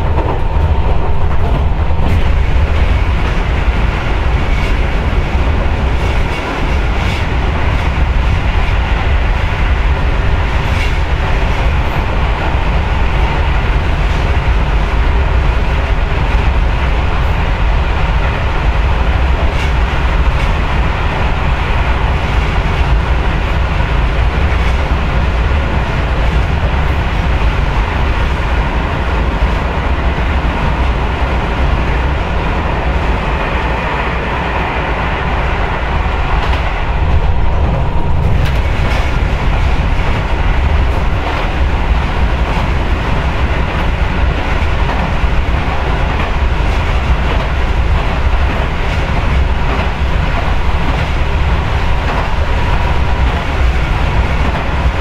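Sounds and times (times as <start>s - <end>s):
rail joint clicks: 0.0s - 55.0s
train wheels rumbling on rail: 0.0s - 55.0s.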